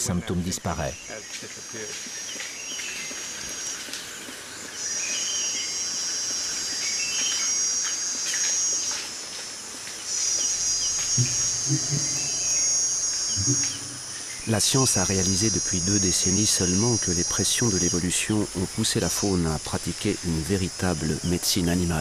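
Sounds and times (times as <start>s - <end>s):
insects trilling: 0.0s - 22.0s
soft insect chirping: 0.0s - 22.0s.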